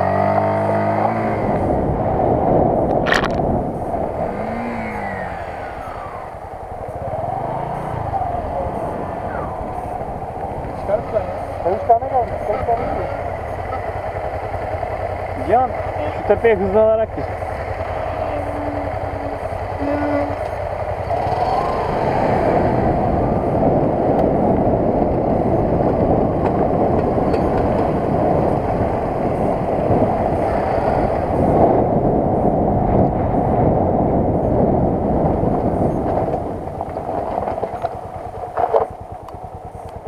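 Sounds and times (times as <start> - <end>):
motorcycle engine under load: 0.0 - 40.0.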